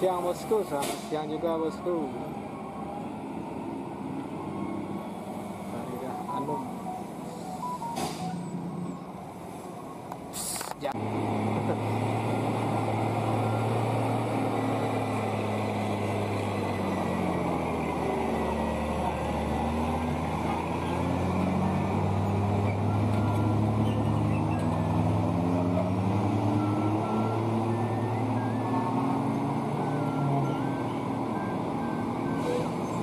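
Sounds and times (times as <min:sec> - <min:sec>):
truck diesel engine under load: 0:00.0 - 0:33.0.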